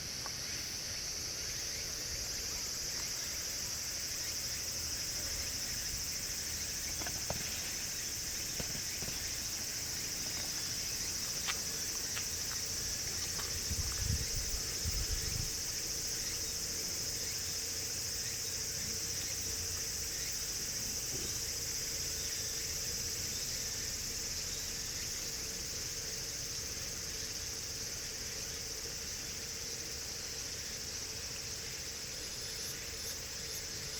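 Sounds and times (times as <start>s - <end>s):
insect chorus drone: 0.0s - 33.9s.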